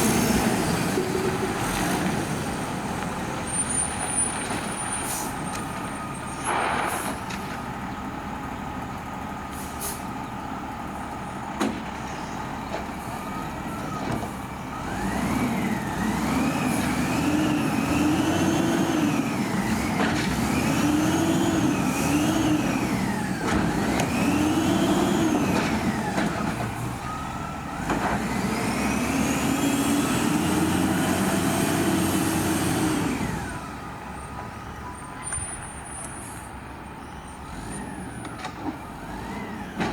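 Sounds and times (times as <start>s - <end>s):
diesel truck engine revving: 0.0s - 34.0s, 37.3s - 39.9s.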